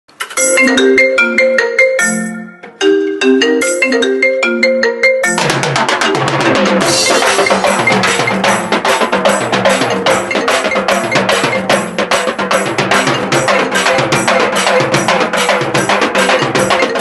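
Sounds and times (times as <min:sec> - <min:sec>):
electronic ringtone tune with beat: 0:00.3 - 0:17.0.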